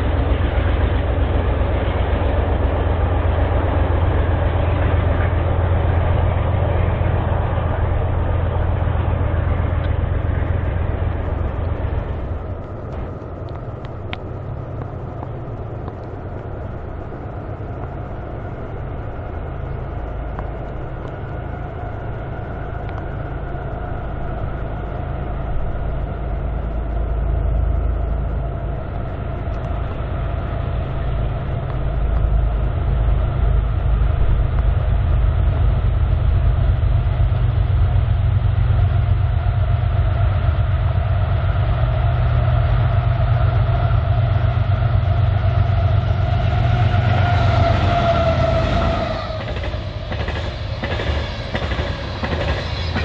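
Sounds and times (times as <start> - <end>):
diesel locomotive engine rumble: 0.0 - 53.0.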